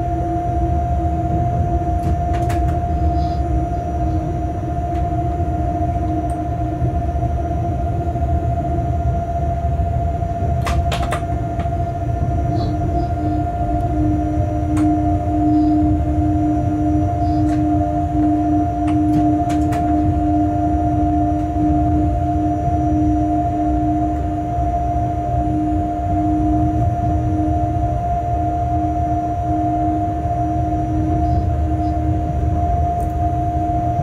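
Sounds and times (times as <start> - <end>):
freight train rumbling: 0.0 - 34.0
steady humming tones: 0.0 - 34.0.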